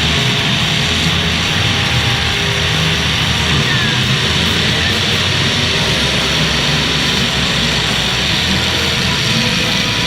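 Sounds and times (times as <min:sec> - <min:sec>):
car engines running: 0:00.0 - 0:10.0
loud music: 0:00.0 - 0:10.0.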